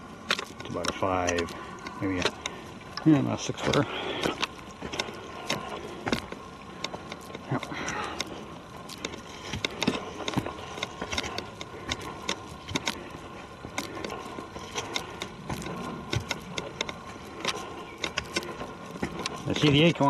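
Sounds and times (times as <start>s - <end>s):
footsteps crunching on forest debris: 0.0s - 20.0s.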